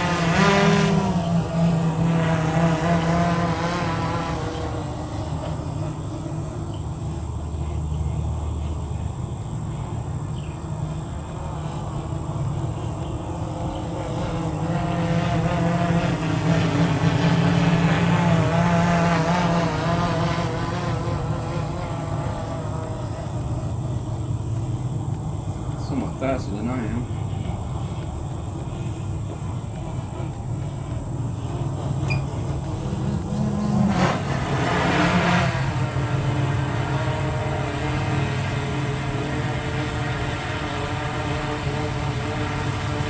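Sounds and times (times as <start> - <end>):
electric motor propeller buzzing: 0.0 - 43.0.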